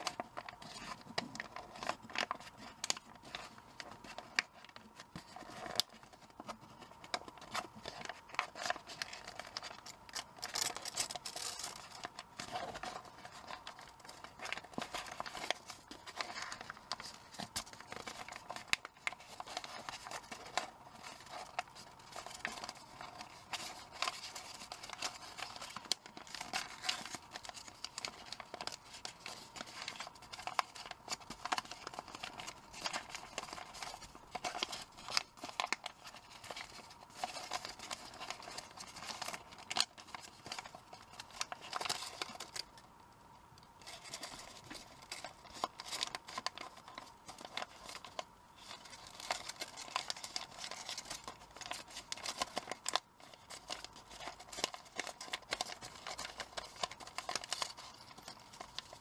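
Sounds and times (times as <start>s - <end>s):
paper rustling and crinkling: 0.0s - 42.8s, 43.8s - 59.0s.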